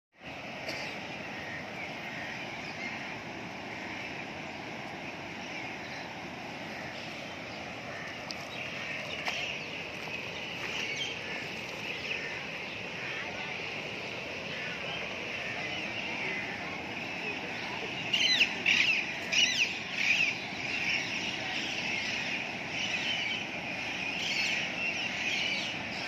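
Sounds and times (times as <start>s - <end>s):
floodwater rushing across road: 0.2s - 26.0s.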